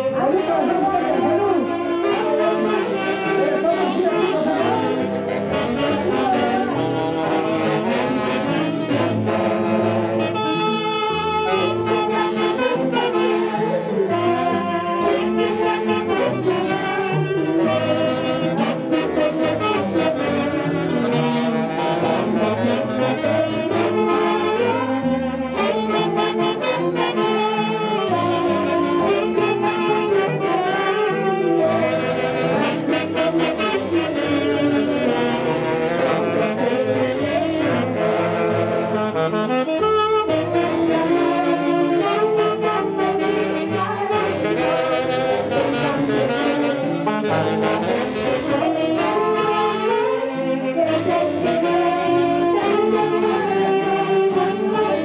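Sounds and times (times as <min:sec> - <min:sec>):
saxophones playing melody: 0:00.0 - 0:55.0.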